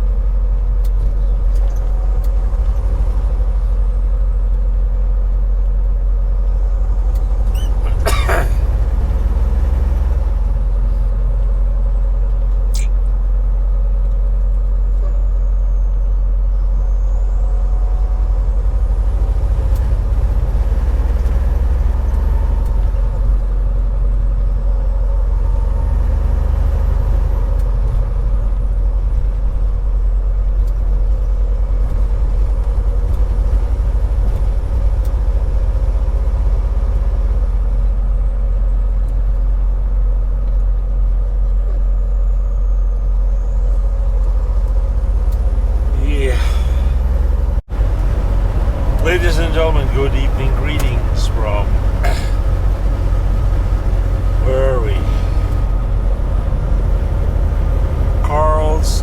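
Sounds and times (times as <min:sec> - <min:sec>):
diesel engine droning: 0:00.0 - 0:59.0
road noise: 0:00.0 - 0:59.0.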